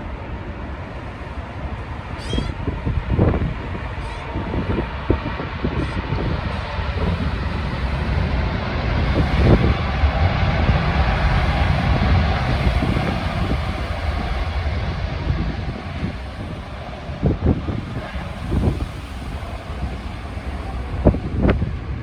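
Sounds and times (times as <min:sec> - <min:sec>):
jet engine rushing: 0:00.0 - 0:22.0
wind buffeting microphone: 0:00.0 - 0:22.0.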